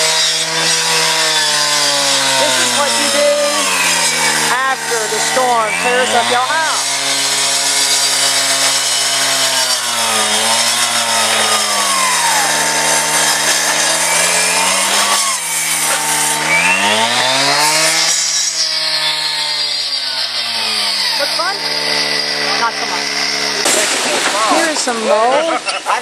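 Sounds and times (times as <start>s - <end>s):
power saw cutting wood: 0.0s - 26.0s.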